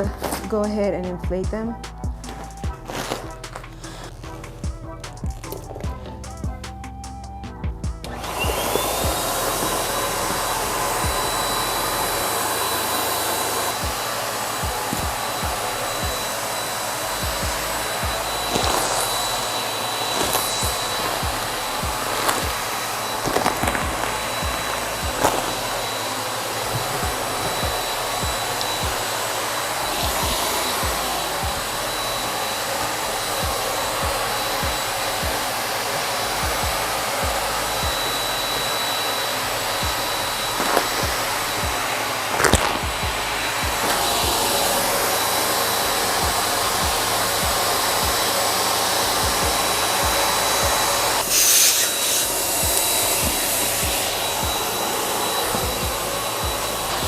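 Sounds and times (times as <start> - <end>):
electric air pump whining: 0.0 - 57.0.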